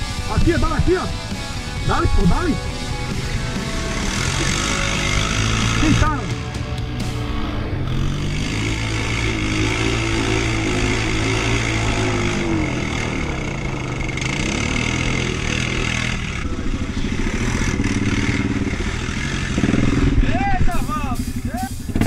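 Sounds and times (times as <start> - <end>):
quad bike engines revving: 0.0 - 22.0.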